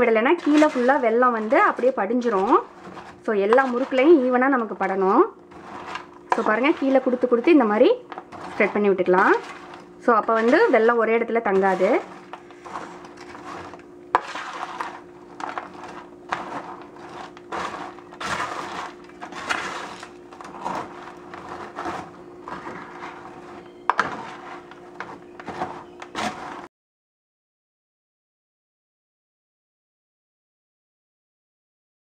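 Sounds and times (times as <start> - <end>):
spatula tossing crunchy snacks: 0.1 - 26.7.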